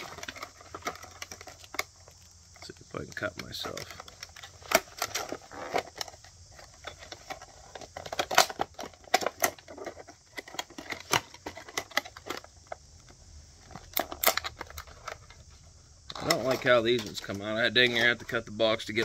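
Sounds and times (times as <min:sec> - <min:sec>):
plastic packaging clicking and crinkling: 0:00.0 - 0:19.0.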